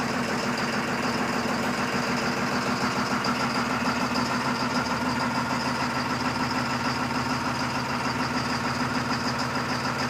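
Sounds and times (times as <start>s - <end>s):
diesel bus engine idling: 0.0s - 10.0s.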